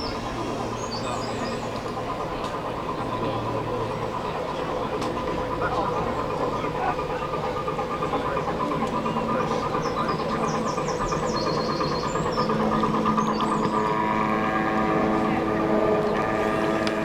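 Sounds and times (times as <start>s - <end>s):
engine pulsing: 0.0s - 17.0s.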